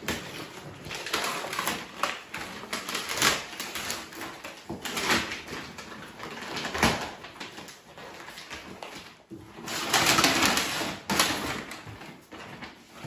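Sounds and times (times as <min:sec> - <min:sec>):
wrapping paper crinkling and tearing: 0:00.0 - 0:13.0.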